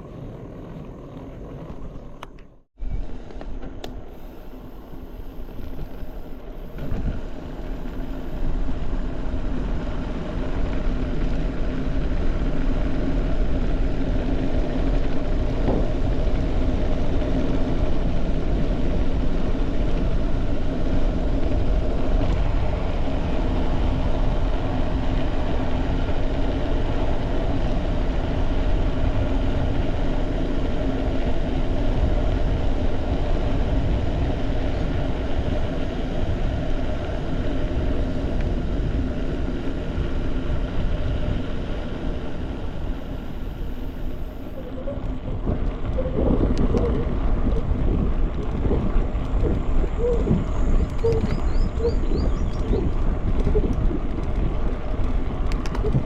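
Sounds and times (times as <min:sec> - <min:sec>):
bike tyres rolling on road: 0:00.0 - 0:56.0
wind rush on microphone: 0:00.0 - 0:56.0.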